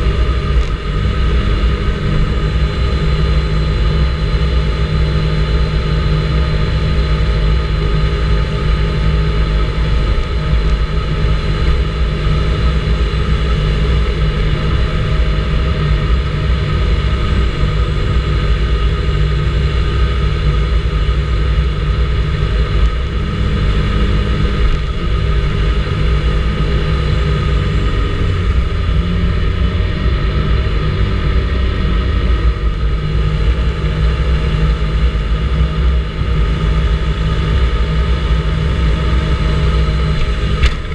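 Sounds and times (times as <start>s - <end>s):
scooter engine running: 0.0s - 40.9s.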